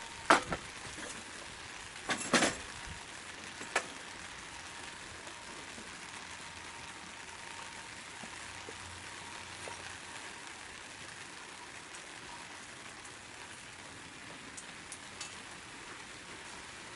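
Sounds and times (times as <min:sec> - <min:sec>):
wood stove fire crackling: 0:00.0 - 0:16.9.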